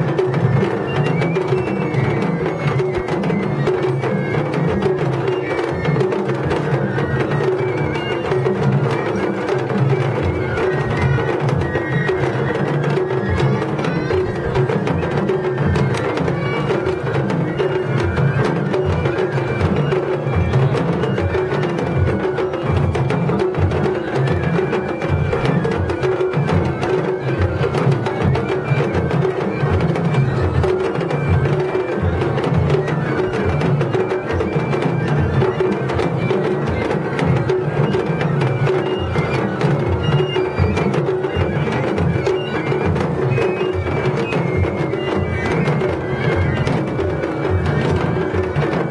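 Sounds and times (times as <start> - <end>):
clacking percussion: 0.0 - 48.9
taiko drums beating: 0.0 - 48.9.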